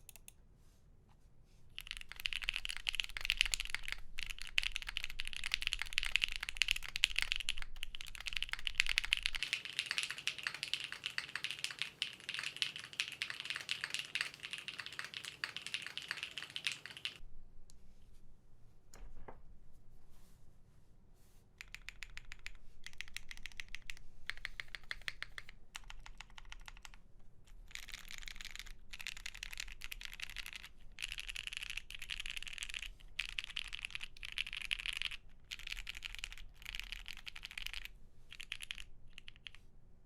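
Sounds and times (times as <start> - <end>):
mechanical keyboard typing: 1.8 - 17.2, 21.6 - 39.6.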